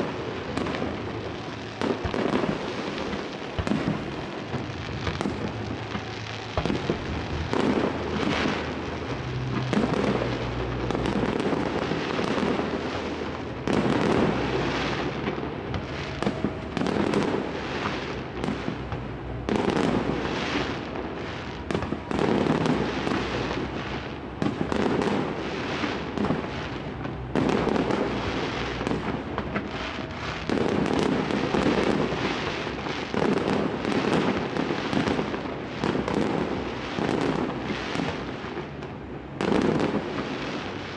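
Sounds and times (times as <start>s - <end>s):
fireworks bangs and pops: 0.0s - 40.9s.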